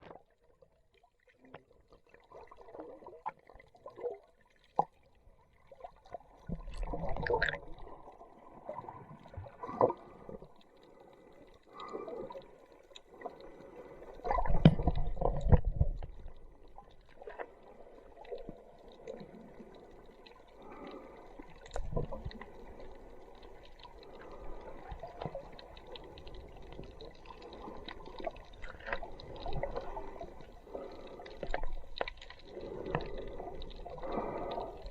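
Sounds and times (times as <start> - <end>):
muffled sea water sloshing: 0.0 - 34.9.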